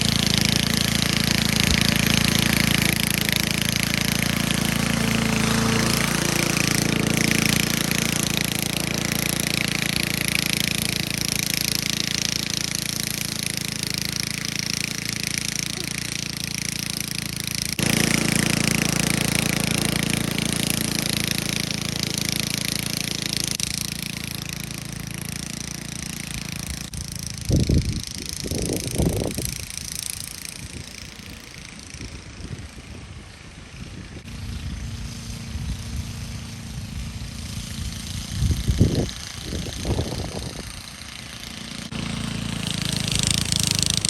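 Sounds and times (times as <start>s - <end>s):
chainsaw running: 0.0s - 44.0s.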